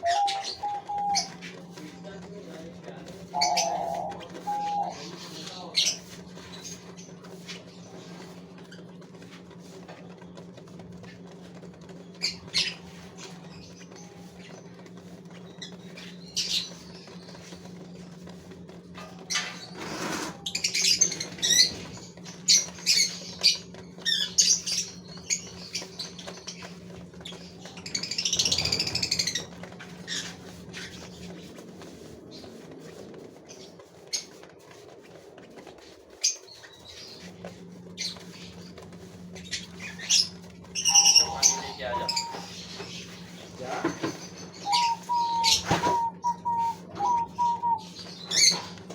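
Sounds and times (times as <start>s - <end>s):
finches chirping and squawking: 0.0s - 8.9s, 11.0s - 34.7s, 35.7s - 48.9s
wing flutters: 0.0s - 48.9s.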